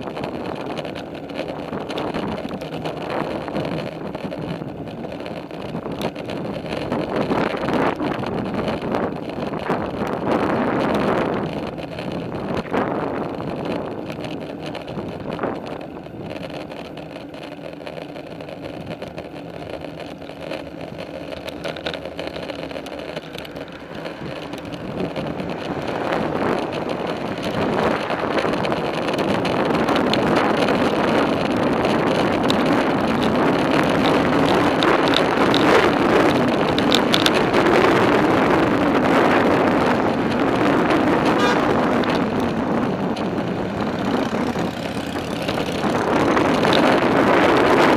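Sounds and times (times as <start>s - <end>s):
bicycle tyres rolling on trail: 0.0s - 47.9s
wind rushing over microphone: 0.0s - 47.9s.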